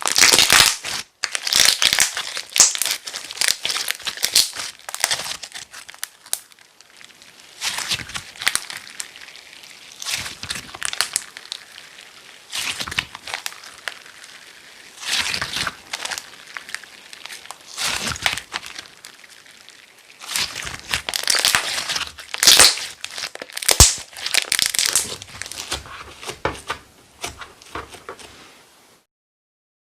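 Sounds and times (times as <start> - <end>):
slime squeezed crackling: 0.0 - 28.3.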